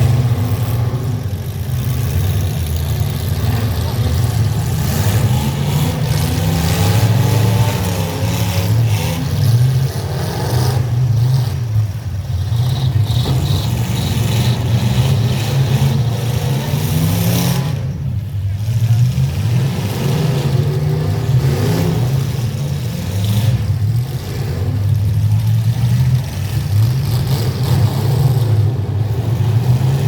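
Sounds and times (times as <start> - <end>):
truck engines revving loudly: 0.0 - 30.0.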